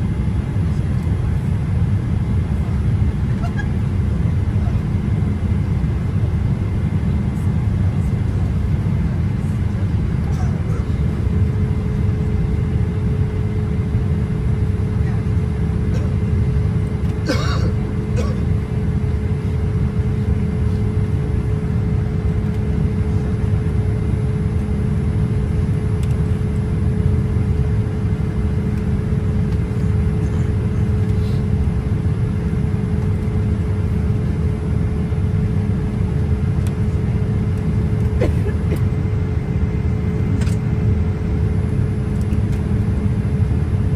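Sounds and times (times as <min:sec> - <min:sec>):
constant hum: 0:00.0 - 0:43.9
jet engine cabin rumble: 0:00.0 - 0:43.9.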